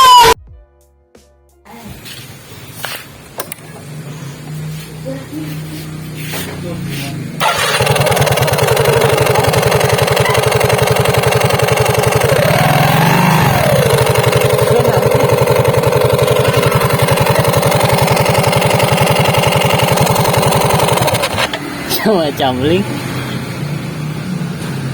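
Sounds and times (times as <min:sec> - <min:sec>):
scooter engine idling: 0:03.4 - 0:24.9.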